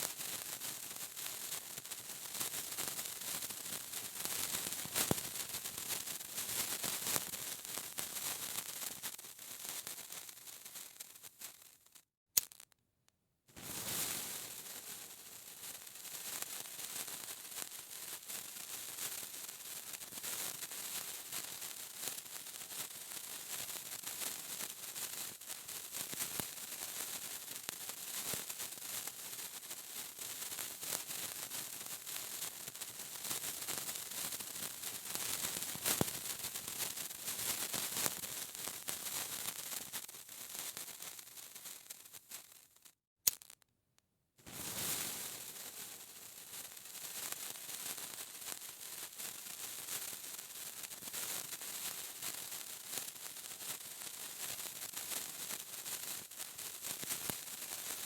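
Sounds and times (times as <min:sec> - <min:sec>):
sparkler fizzing and crackling: 0:00.0 - 0:12.7, 0:13.5 - 0:43.6, 0:44.5 - 0:58.0.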